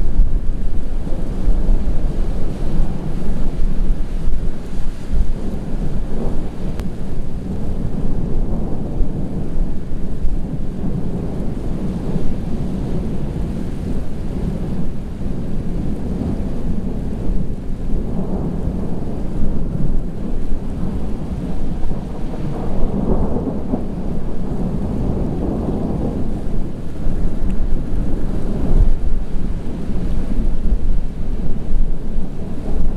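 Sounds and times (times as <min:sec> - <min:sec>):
thunder rumbling: 0:00.0 - 0:32.9.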